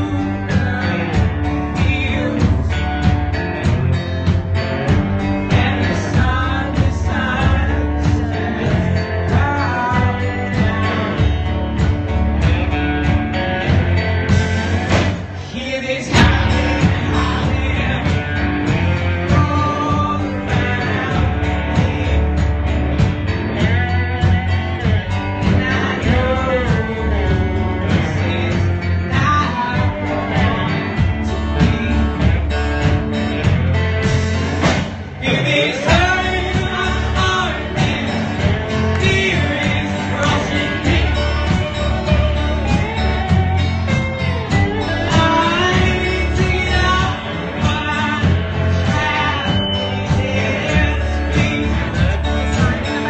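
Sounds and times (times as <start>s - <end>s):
man singing: 0.0s - 4.0s, 4.8s - 53.0s
acoustic guitar strumming: 0.0s - 53.0s
band playing: 0.0s - 53.0s.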